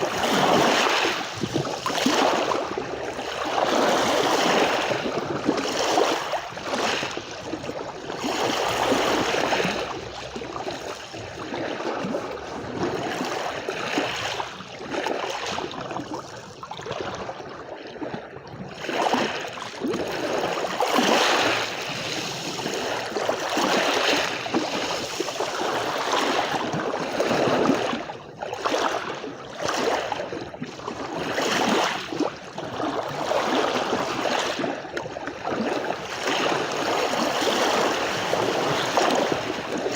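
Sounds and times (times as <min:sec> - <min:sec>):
waves washing onto shore: 0:00.0 - 0:17.9, 0:18.7 - 0:30.4, 0:31.0 - 0:39.9.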